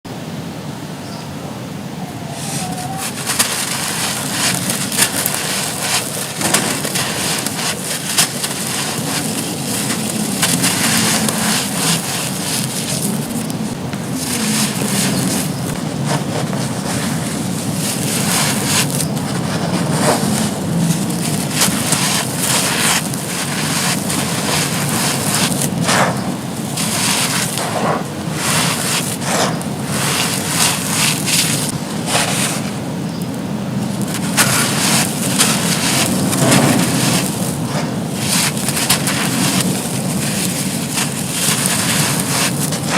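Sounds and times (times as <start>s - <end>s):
gritty crunching of crumbling bricks: 2.4s - 42.9s.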